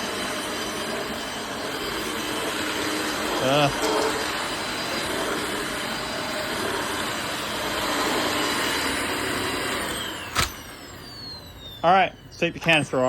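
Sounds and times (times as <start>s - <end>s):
motor winding down whine: 0.0s - 13.0s
vacuum cleaner running: 0.0s - 13.0s.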